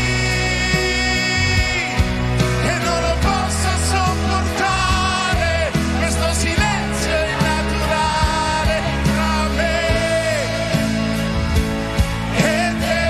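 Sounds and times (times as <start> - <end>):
band accompaniment: 0.0 - 13.0
man singing pop ballad: 0.0 - 13.0.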